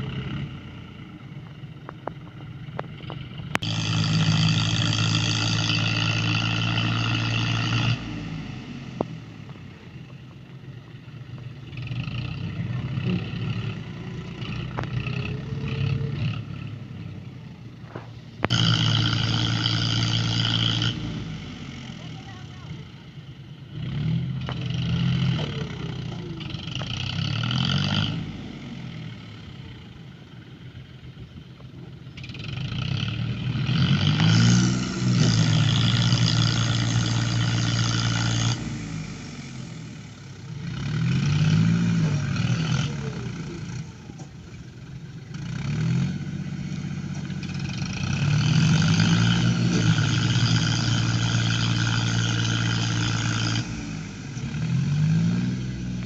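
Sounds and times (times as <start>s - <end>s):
tractor engine revving under load: 0.0s - 56.0s.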